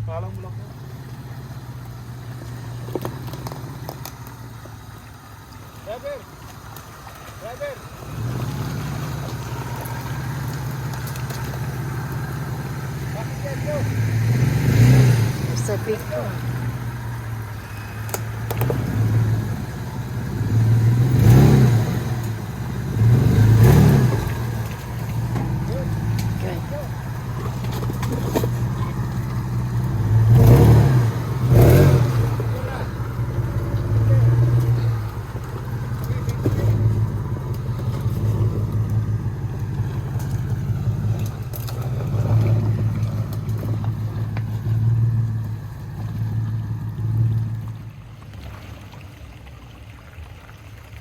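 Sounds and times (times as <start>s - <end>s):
off-road vehicle engine revving: 0.0s - 48.5s.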